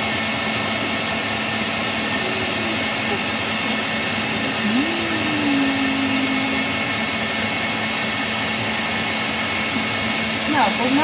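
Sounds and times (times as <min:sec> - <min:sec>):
electric mixer whirring: 0:01.2 - 0:11.0.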